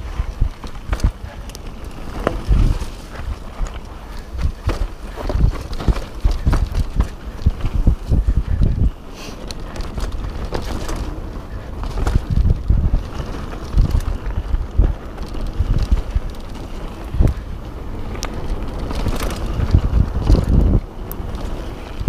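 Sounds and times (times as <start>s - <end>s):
bike rattling: 0.0s - 22.0s
bike thumping over bumps: 0.0s - 22.0s
bike tyres rumbling on dirt: 0.0s - 22.0s
wind buffeting microphone: 0.0s - 22.0s.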